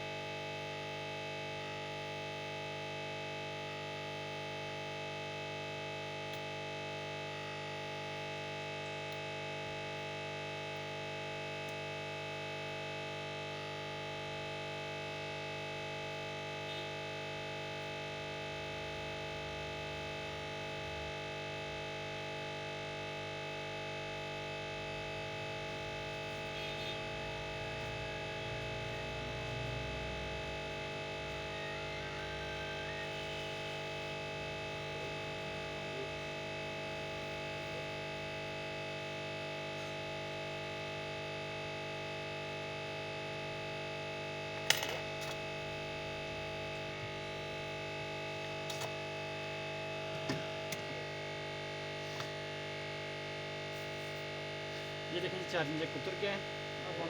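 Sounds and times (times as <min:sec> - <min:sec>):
hot-air station hum and whine: 0:00.0 - 0:57.0.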